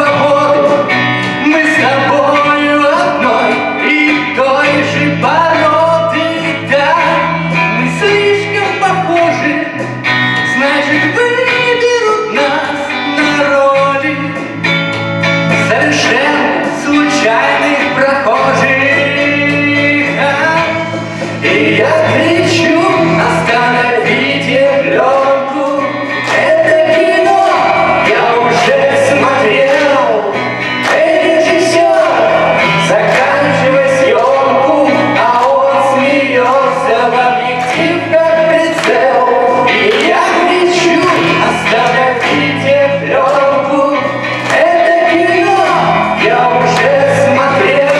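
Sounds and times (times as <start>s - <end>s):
man singing: 0.0s - 47.9s
musical accompaniment: 0.0s - 47.9s.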